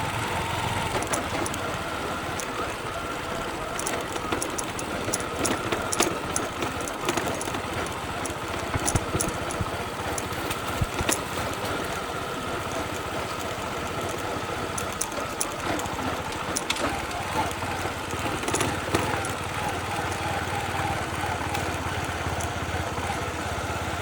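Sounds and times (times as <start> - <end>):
motorbike engine running: 0.0 - 24.0
light clicks and rattles: 0.8 - 24.0.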